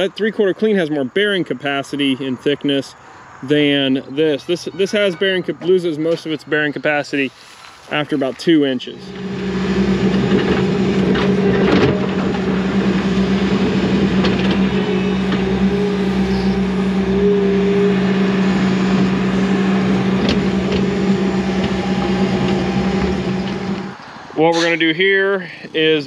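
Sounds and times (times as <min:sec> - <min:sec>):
diesel engine droning: 0:00.0 - 0:26.0.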